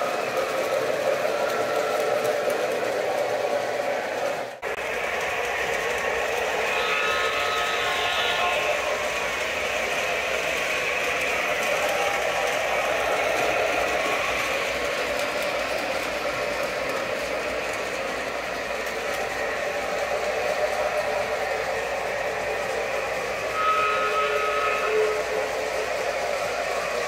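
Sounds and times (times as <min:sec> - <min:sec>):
model train motors whirring: 0:00.0 - 0:27.0.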